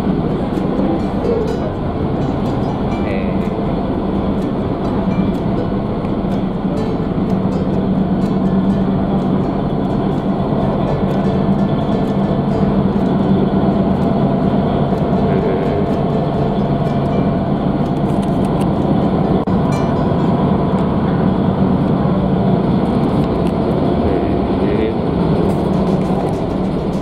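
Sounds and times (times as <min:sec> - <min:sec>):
rushing noise: 0:00.0 - 0:27.0
ship engines droning: 0:00.0 - 0:27.0.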